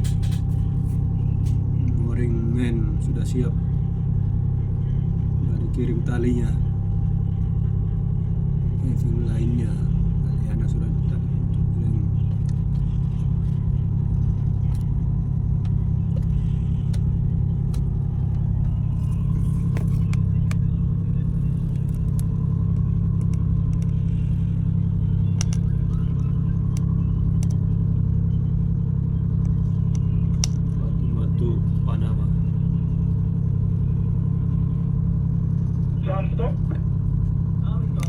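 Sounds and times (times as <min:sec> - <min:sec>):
diesel engines droning: 0:00.0 - 0:38.0.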